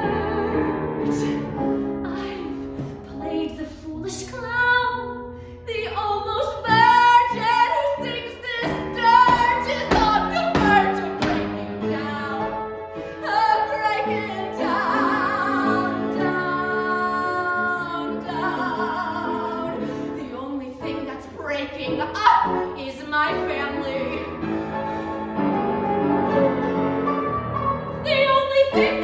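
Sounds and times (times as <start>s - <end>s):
woman singing: 0.0s - 24.3s, 27.9s - 29.0s
piano accompaniment: 0.0s - 29.0s.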